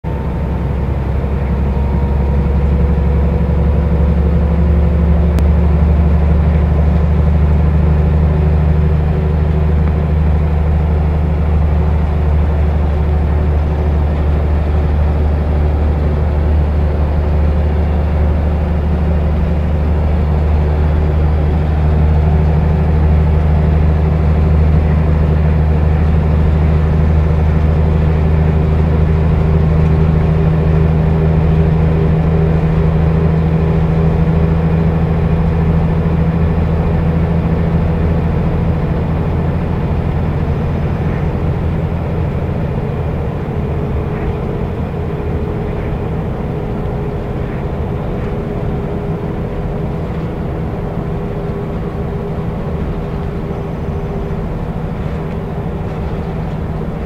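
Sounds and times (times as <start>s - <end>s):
bus diesel engine droning: 0.0s - 57.0s
road noise: 0.0s - 57.0s.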